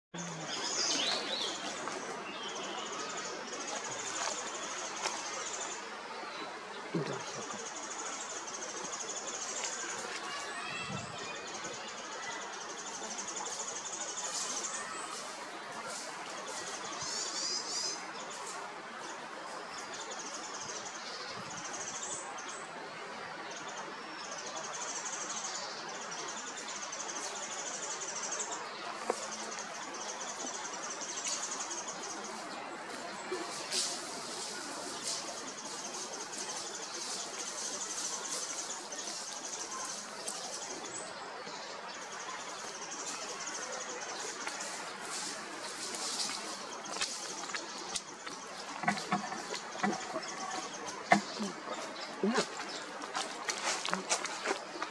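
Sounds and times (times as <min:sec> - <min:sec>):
small birds chirping: 0:00.2 - 0:22.7, 0:23.5 - 0:54.9.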